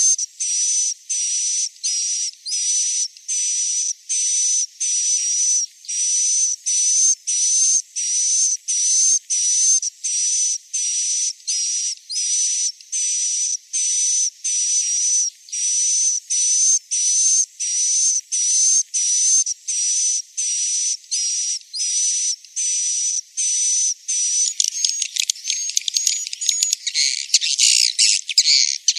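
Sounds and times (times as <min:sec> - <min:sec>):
buzzy hissy bird chirp with whistle: 0:00.0 - 0:28.9.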